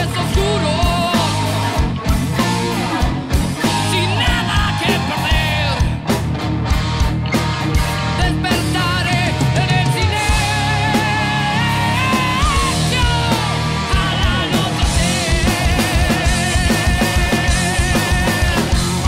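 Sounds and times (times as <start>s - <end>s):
rock band playing live: 0.0s - 19.0s
wavering lead melody: 0.0s - 19.0s.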